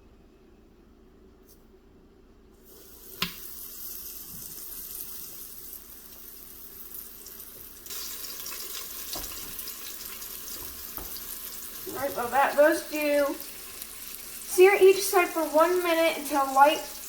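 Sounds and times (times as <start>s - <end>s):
chicken sizzling in hot oil: 2.6s - 17.0s.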